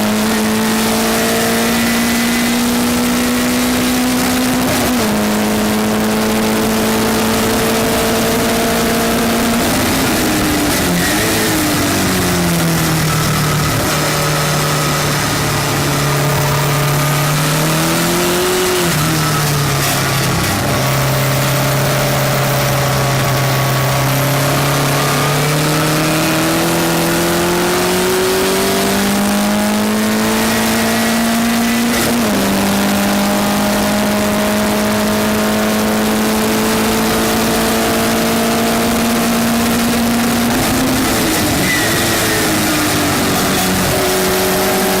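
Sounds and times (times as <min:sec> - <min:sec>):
race car engine revving: 0:00.0 - 0:45.0
wind and road noise: 0:00.0 - 0:45.0.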